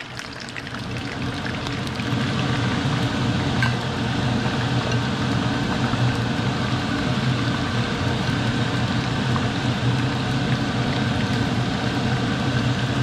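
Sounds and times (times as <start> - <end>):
fish sizzling in frying oil: 0.0 - 13.0
kitchen exhaust fan running: 0.0 - 13.0.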